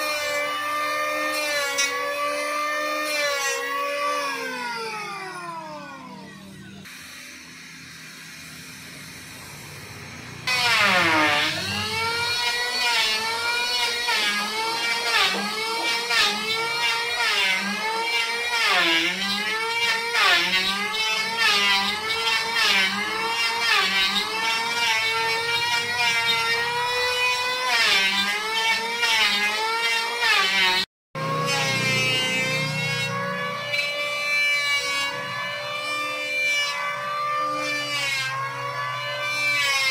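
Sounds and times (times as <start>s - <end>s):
die grinder whining into wood: 0.0s - 9.4s, 10.4s - 39.9s.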